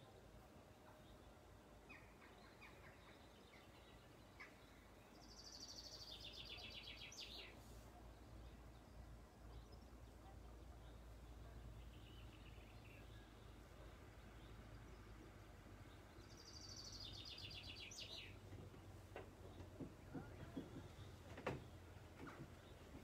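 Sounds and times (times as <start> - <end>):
faint birdsong chirps and trill: 0.0 - 23.0
low outdoor background rumble: 0.0 - 23.0.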